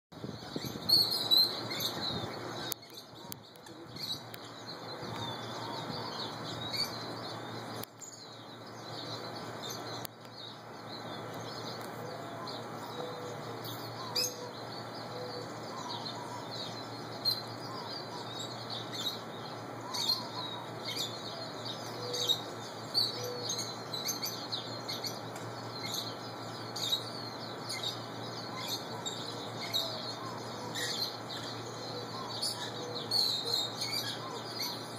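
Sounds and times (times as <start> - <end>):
birds chirping: 0.1 - 34.9
lower bird calls: 0.2 - 34.9.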